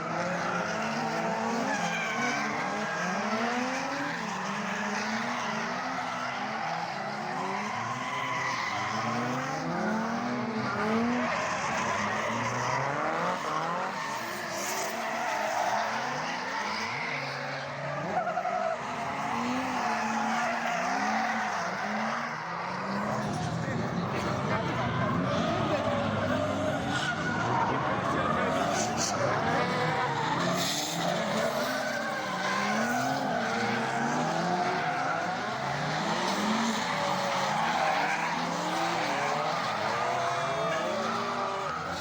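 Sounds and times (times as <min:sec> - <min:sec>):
car engines revving: 0:00.0 - 0:42.0
tyres skidding and squealing: 0:00.0 - 0:42.0.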